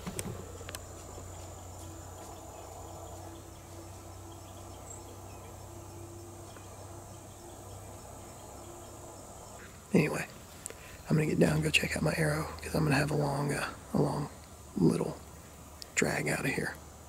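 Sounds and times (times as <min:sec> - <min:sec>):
high insect drone: 0:00.0 - 0:17.0
low constant rumble: 0:00.0 - 0:17.0.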